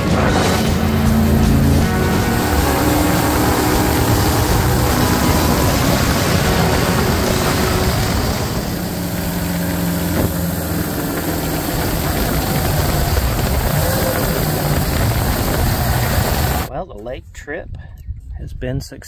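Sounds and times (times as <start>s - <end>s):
boat engine running: 0.0s - 16.7s
wind and water rushing: 0.0s - 16.7s.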